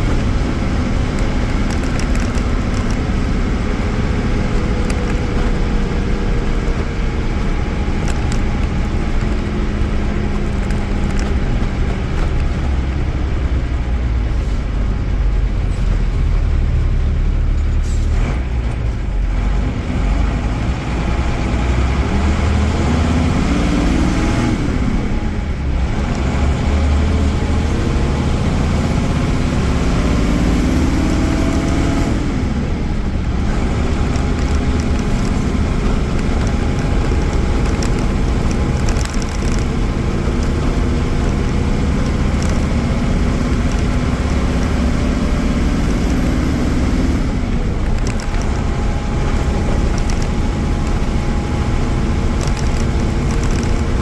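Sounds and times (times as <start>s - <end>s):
bus diesel engine revving: 0.0s - 54.0s.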